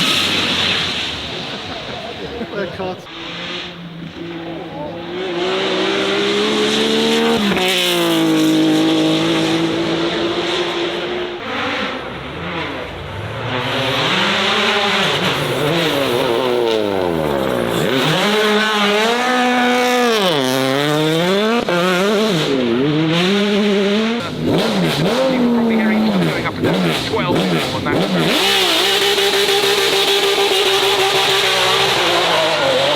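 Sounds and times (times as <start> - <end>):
racing car engine revving: 0.0 - 32.9.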